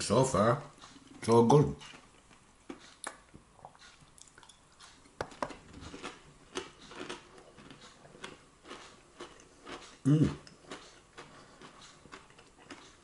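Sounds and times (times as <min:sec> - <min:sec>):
person chewing food: 0:00.7 - 0:13.0.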